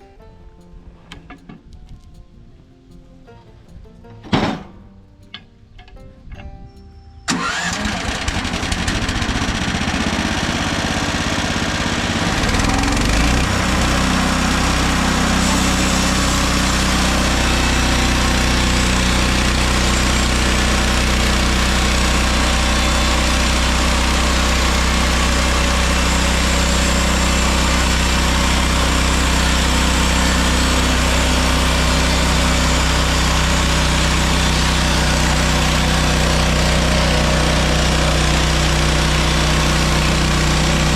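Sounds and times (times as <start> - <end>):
sawmill gas engine running: 7.3 - 40.9.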